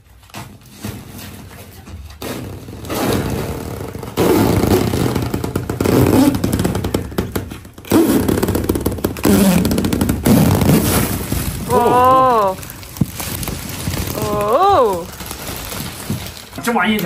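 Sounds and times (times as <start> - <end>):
plastic wrapping crackling: 0.0 - 17.0.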